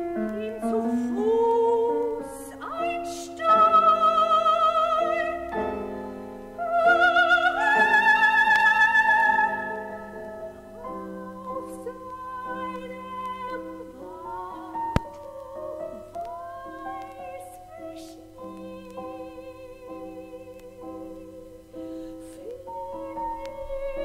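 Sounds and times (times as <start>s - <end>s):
piano accompaniment: 0.0s - 24.0s
soprano singing: 0.0s - 24.0s.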